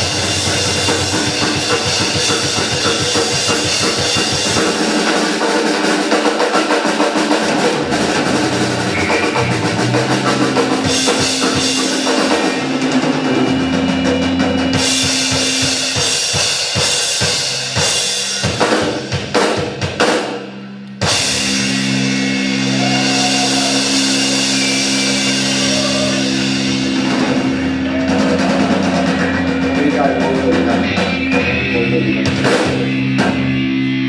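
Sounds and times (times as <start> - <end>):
live band playing: 0.0 - 34.0.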